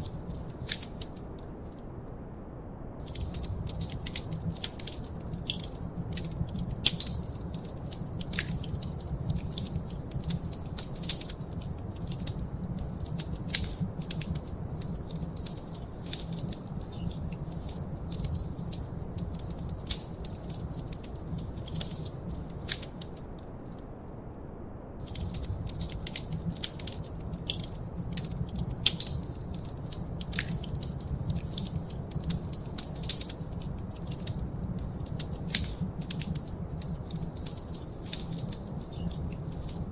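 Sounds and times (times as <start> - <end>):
wood fire crackling: 0.0 - 1.8, 3.0 - 23.8, 25.0 - 39.9.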